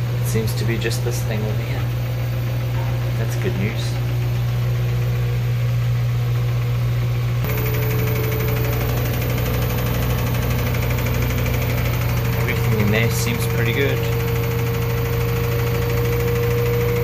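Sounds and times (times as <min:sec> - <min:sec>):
washing machine spin humming: 0:00.0 - 0:17.0.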